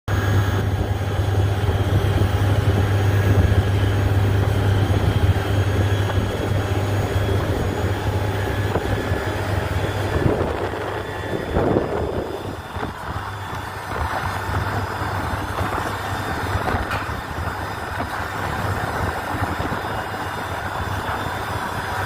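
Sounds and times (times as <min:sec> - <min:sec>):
steady low hum: 0:00.1 - 0:22.0
strong wind blowing: 0:00.1 - 0:22.0.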